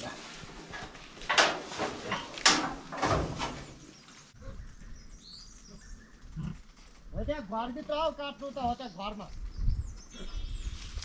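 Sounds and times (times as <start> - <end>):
outdoor background: 0.0 - 11.0.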